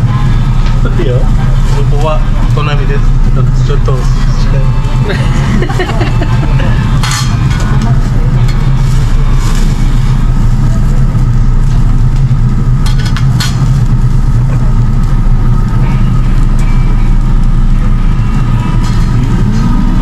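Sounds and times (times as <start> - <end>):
ventilation hum: 0.0 - 20.0.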